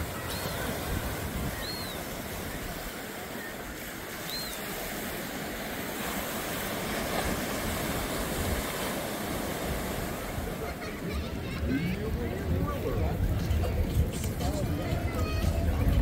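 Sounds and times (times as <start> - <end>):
ocean surf breaking on rocks: 0.0 - 16.0.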